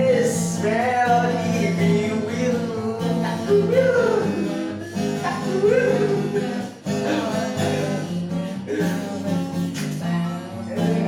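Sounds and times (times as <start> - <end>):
acoustic guitar chords: 0.0 - 11.0.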